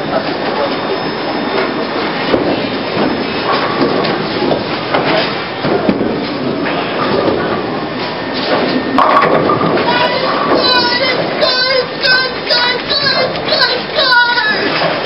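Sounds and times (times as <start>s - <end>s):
bowling balls rumbling: 1.6s - 15.0s.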